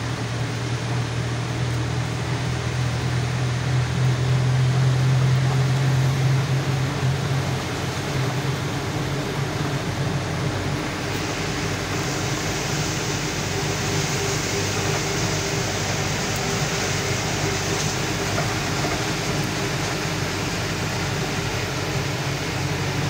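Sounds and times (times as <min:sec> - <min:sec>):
diesel engine drone: 0:00.0 - 0:23.0
tyre and road noise: 0:00.0 - 0:23.0.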